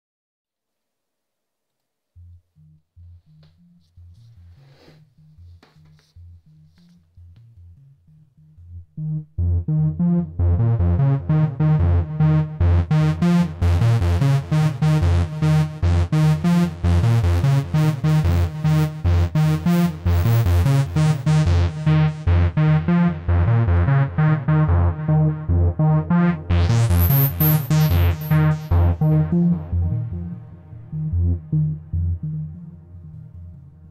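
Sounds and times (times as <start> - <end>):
synthesizer repeating bass pattern: 2.2 - 33.9.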